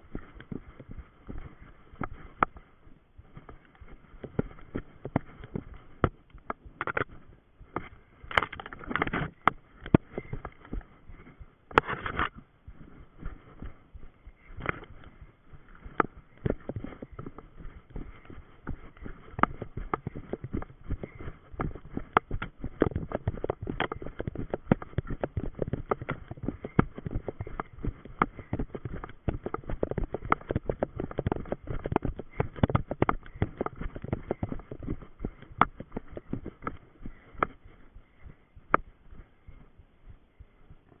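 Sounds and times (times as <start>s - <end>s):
running footsteps on forest path: 0.0s - 41.0s.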